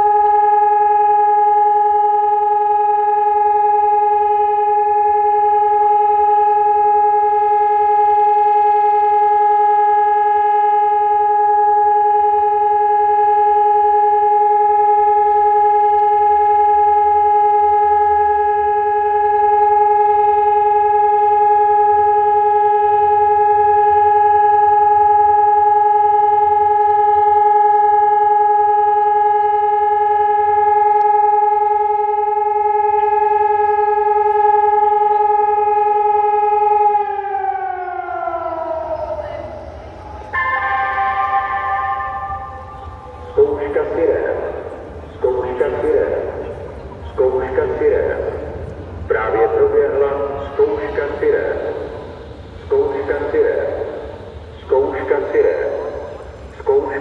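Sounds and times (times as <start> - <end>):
steady siren tone: 0.0 - 57.0.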